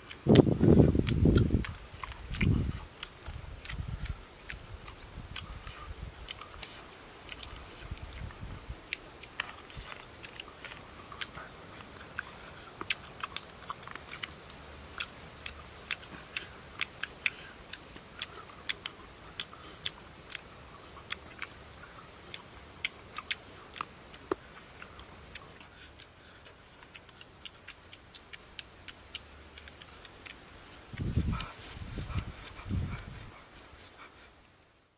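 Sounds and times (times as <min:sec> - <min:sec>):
person chewing with crunches: 0:00.0 - 0:34.4.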